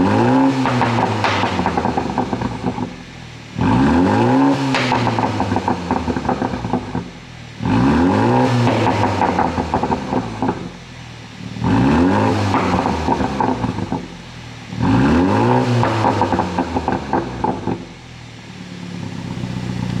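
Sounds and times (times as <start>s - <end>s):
car engine revving: 0.0s - 20.0s
exhaust pops and crackles: 0.0s - 20.0s.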